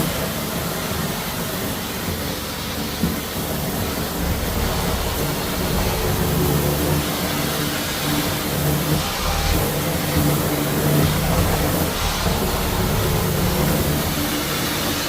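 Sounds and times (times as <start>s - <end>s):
floor cleaning machine hum: 2.4s - 15.0s.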